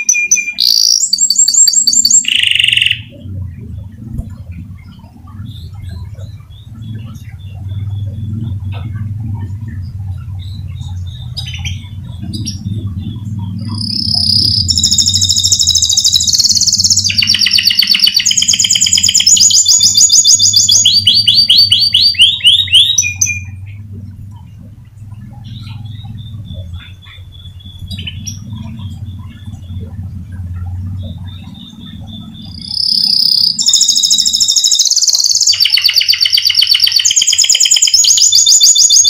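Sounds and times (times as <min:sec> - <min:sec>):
canary singing trills: 0:00.0 - 0:39.0
steady low hum: 0:01.9 - 0:34.7.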